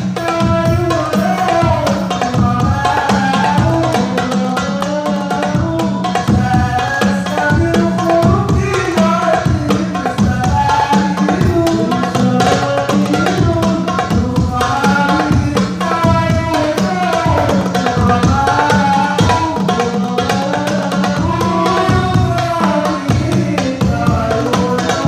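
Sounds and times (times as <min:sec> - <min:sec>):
hand drums beating quick rhythm: 0:00.0 - 0:25.0.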